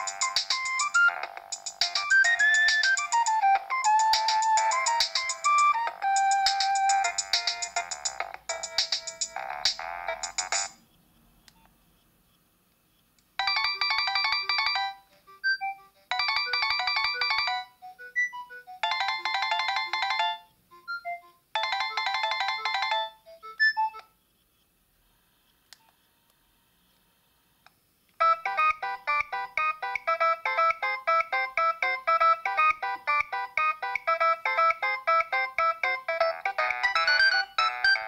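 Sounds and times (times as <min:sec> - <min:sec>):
different ringtone quick notes: 0:00.0 - 0:10.8, 0:13.4 - 0:24.0, 0:28.2 - 0:38.0
electronic phone ringtone: 0:00.0 - 0:10.8, 0:13.4 - 0:24.0, 0:28.2 - 0:38.0.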